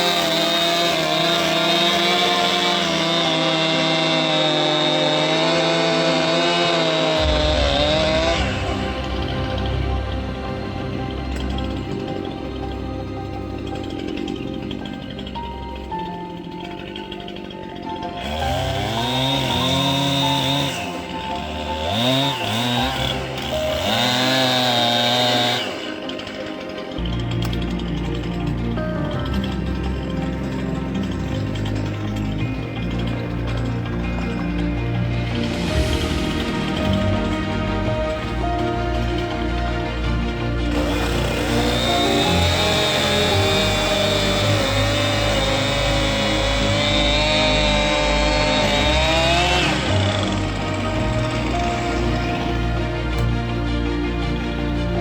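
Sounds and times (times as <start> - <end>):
chainsaw engine revving: 0.0 - 12.7, 13.3 - 55.0.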